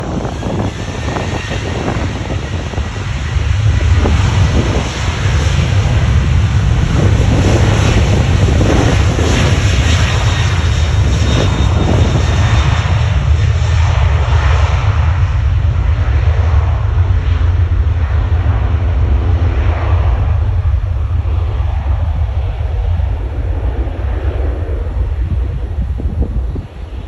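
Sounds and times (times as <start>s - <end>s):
jet engines roaring: 0.0s - 27.0s
wind buffeting microphone: 0.0s - 27.0s.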